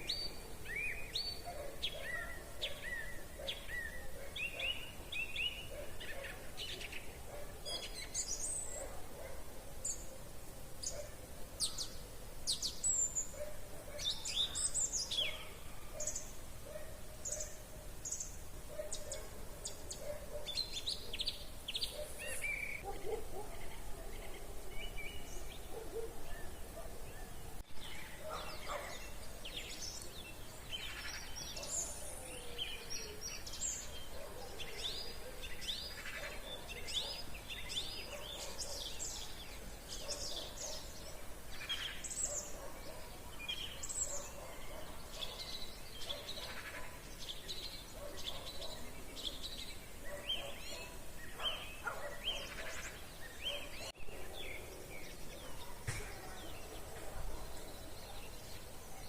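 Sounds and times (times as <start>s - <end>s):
faint outdoor hiss: 0.0s - 59.0s
songbirds chirping and trilling: 0.0s - 59.0s.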